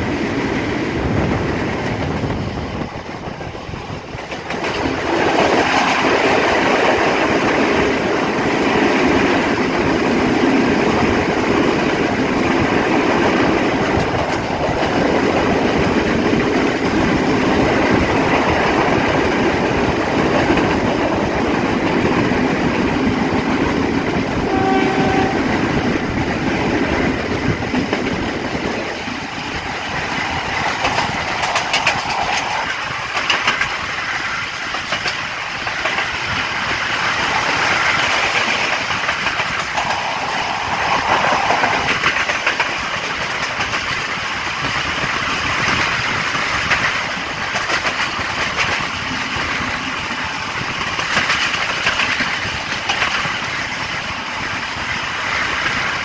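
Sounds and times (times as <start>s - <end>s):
train rushing on tracks: 0.0s - 56.0s.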